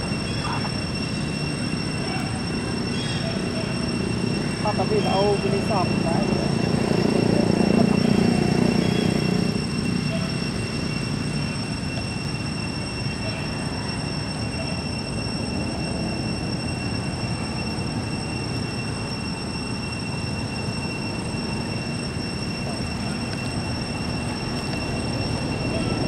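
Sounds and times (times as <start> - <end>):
high-pitched tones: 0.0 - 26.0
traffic engine rumble: 0.0 - 26.0.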